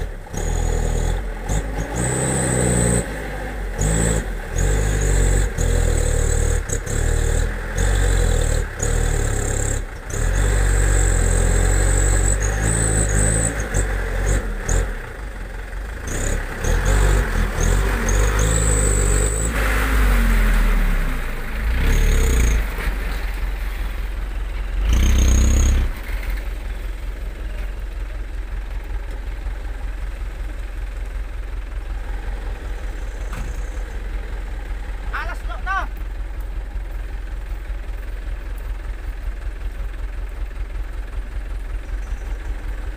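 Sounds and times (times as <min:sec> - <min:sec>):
diesel truck engine revving: 0:00.0 - 0:42.9.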